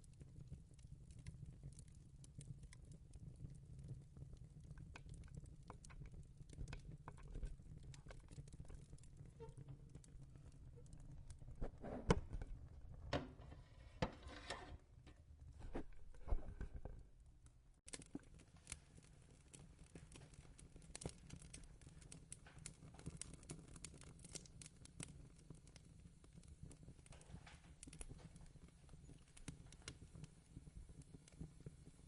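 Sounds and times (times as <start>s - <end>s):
fire crackling: 0.0s - 32.0s.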